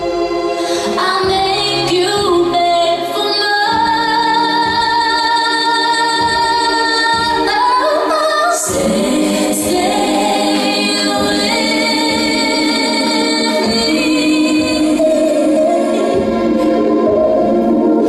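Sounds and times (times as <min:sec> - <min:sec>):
steady low drum beat: 0:00.0 - 0:02.9, 0:03.7 - 0:05.4, 0:06.1 - 0:07.7, 0:08.7 - 0:18.0.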